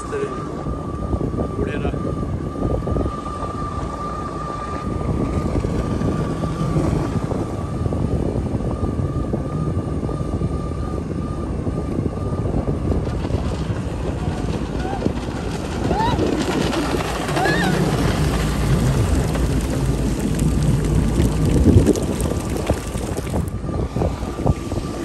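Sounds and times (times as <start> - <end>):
jet ski engine rumble and whine: 0.0 - 25.0.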